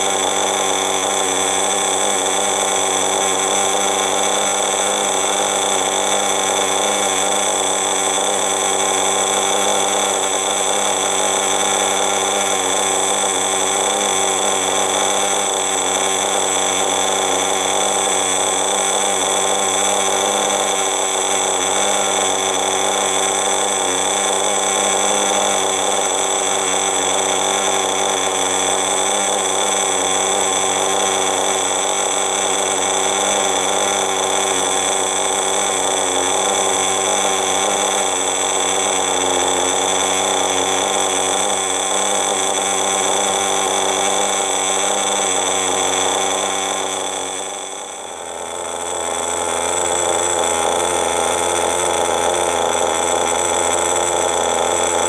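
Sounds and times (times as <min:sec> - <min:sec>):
model car engine buzzing: 0:00.0 - 0:55.0.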